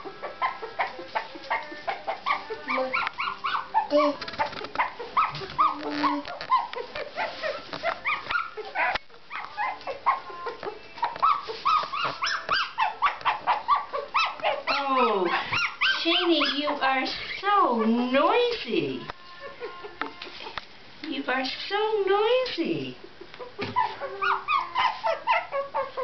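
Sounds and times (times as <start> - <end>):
puppies whimpering and yipping: 0.0 - 20.7, 22.2 - 26.0.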